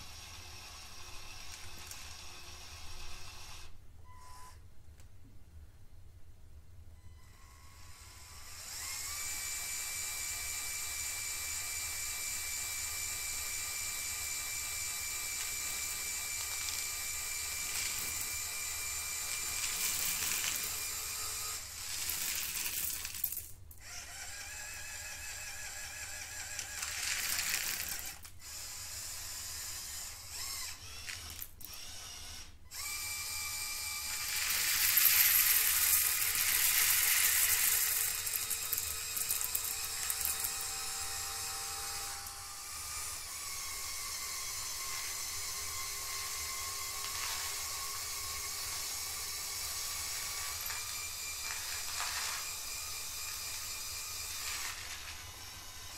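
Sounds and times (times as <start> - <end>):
toy electric motors whirring: 0.0 - 3.8, 7.3 - 55.9.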